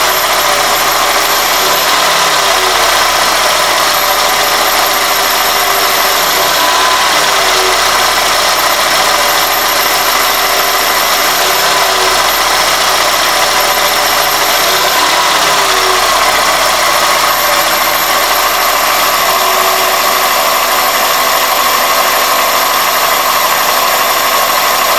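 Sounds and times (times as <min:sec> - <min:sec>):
car engine idling: 0:00.0 - 0:24.9
high-pitched whistle: 0:00.0 - 0:24.9.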